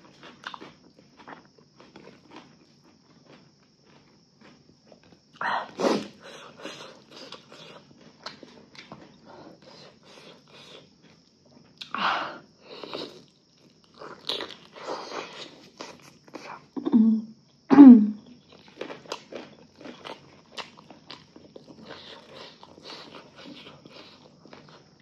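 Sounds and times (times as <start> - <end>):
person chewing food: 0.0 - 12.0, 12.6 - 16.7, 18.4 - 25.0.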